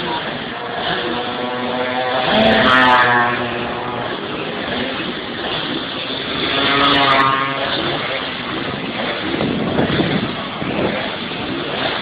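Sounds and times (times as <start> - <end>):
minibike engines racing: 0.0 - 12.0.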